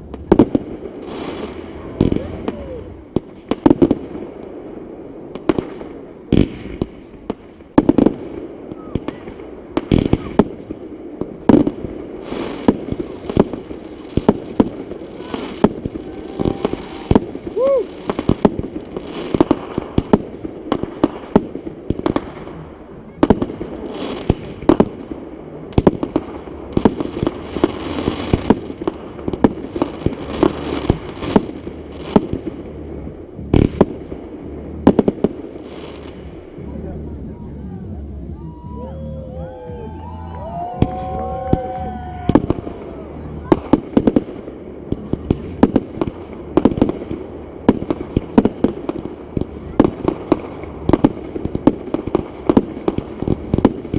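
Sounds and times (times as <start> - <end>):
fireworks bangs: 0.0 - 53.9
fireworks crackling hiss: 0.0 - 53.9.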